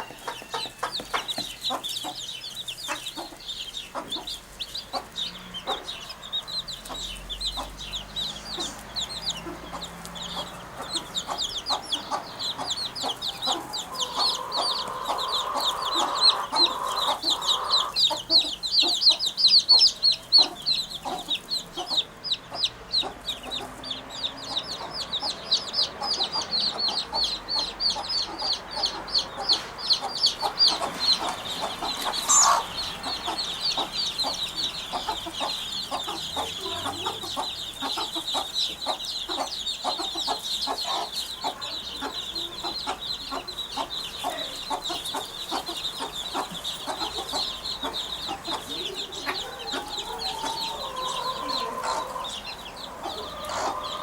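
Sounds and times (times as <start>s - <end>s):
birds chirping rapidly: 0.0s - 54.0s.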